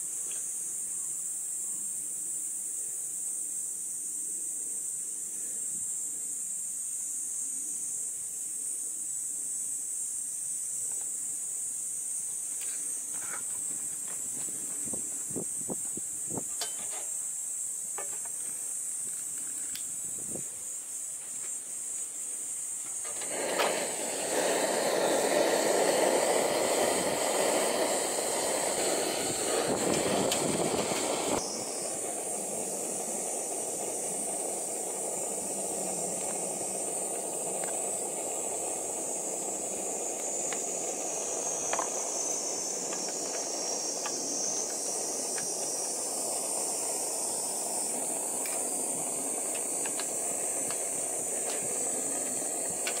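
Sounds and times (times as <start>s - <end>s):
gas stove burner hissing: 0.0s - 53.0s
high-pitched insect drone: 0.0s - 53.0s.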